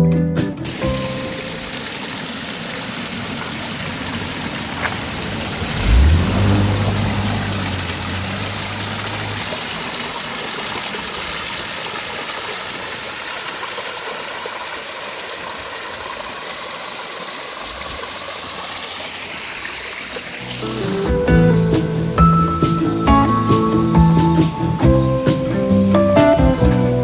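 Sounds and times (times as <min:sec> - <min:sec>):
stream flowing: 0:00.7 - 0:24.8.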